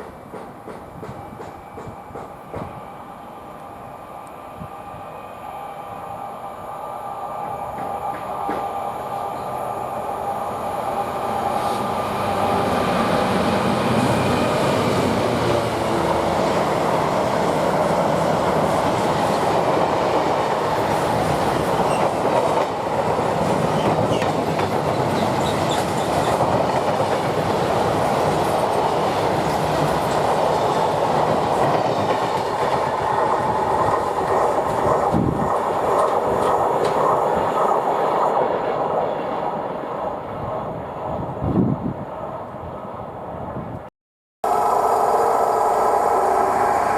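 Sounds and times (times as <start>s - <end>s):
train wheels rushing on rail: 0.0s - 42.1s, 44.5s - 46.9s.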